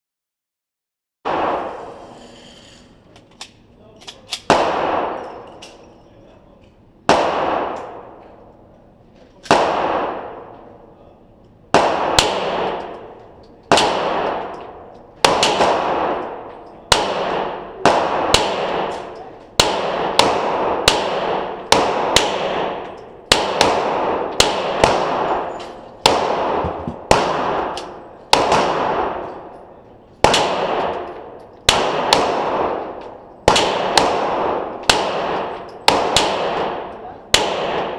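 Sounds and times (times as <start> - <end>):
pistol shots: 1.3 - 1.9, 4.4 - 5.4, 7.1 - 8.4, 9.4 - 10.6, 11.7 - 37.9.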